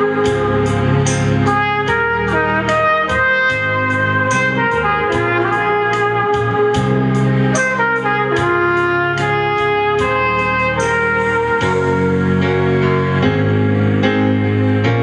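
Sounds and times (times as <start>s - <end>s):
steady drum beat: 0.0s - 12.4s
trumpet playing slow melody: 0.0s - 14.0s
guitar or keyboard chords: 0.0s - 15.0s.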